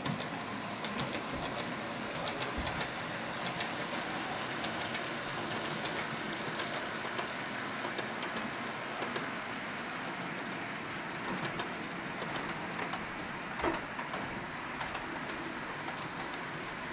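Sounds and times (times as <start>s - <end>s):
model train running on track: 0.0s - 16.9s
wheels clicking on rails: 0.0s - 16.9s.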